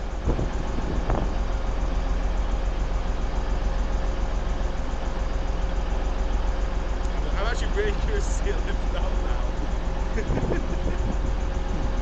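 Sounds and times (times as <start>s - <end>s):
diesel train engine idling: 0.0s - 12.0s
faint steady whine: 0.0s - 12.0s.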